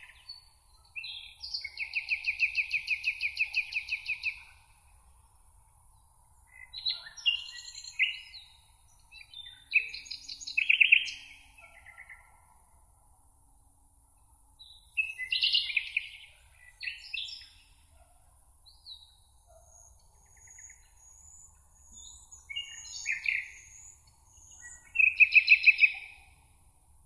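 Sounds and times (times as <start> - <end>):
songbirds singing: 0.0 - 4.7, 6.0 - 12.6, 14.6 - 18.1, 18.7 - 26.6.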